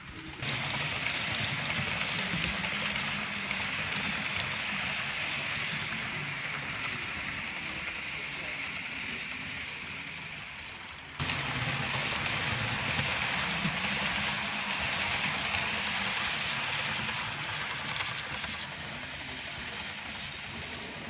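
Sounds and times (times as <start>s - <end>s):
model train rushing noise: 0.0s - 21.0s.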